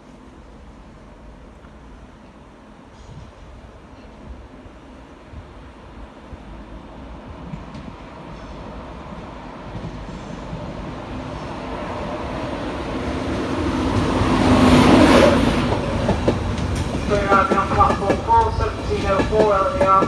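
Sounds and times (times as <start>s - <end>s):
train rushing hiss: 0.0s - 20.0s
train rumbling: 0.1s - 20.0s.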